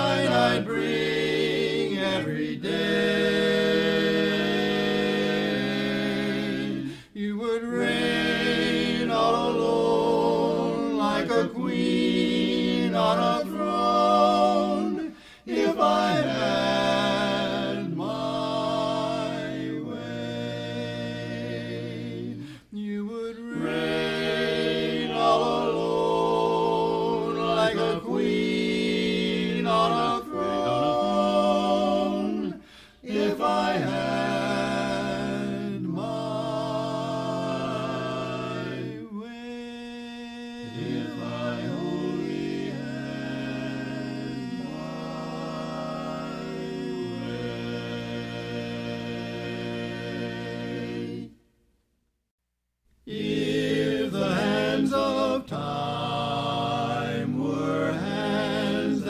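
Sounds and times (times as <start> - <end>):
quartet singing a cappella: 0.0 - 51.4, 53.1 - 59.0.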